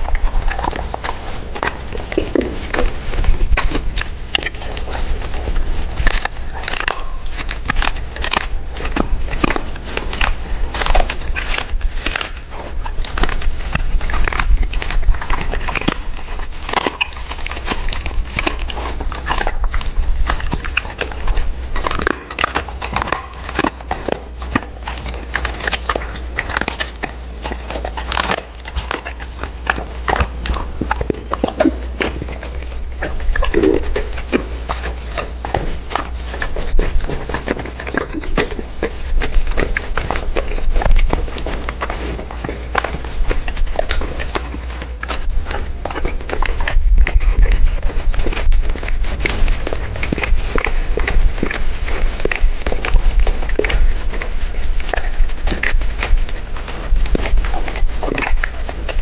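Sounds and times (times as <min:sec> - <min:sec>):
dog crunching food: 0:00.0 - 0:59.0.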